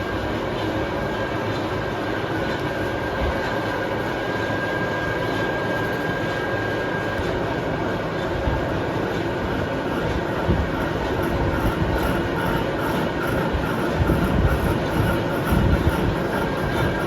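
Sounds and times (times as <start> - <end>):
lathe rumbling: 0.0 - 17.0.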